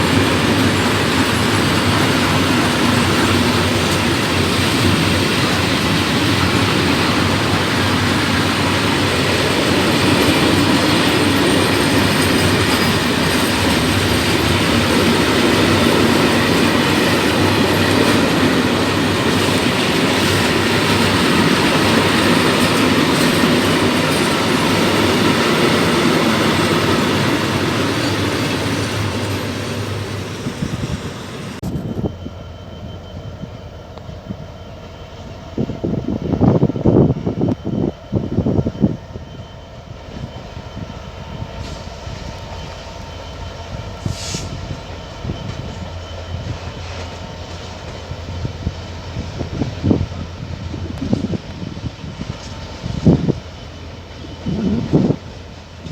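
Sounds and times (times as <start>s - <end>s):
train wheels rumbling on rails: 0.0s - 55.9s
wheel squeal: 0.0s - 55.9s.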